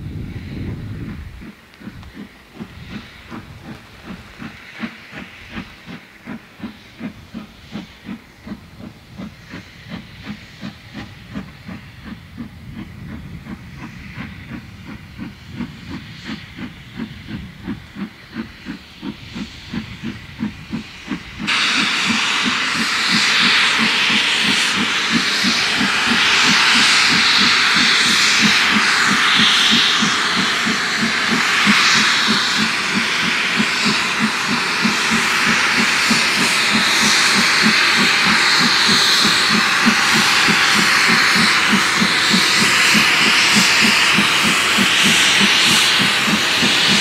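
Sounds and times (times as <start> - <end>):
hiss of escaping steam: 0.0 - 47.0
steam locomotive chuffing: 0.0 - 47.0.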